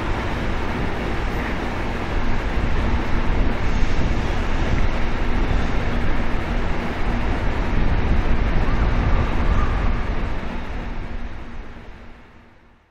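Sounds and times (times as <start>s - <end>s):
wind buffeting microphone: 0.0s - 12.2s
faint train pulling away: 0.0s - 12.9s.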